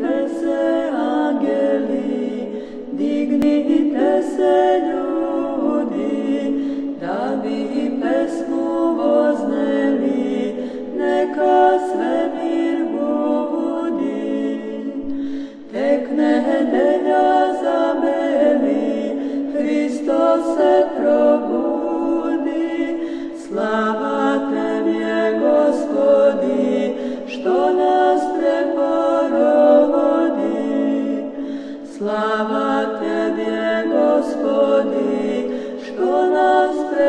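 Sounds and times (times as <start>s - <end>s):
choir chanting a cappella: 0.0s - 37.0s.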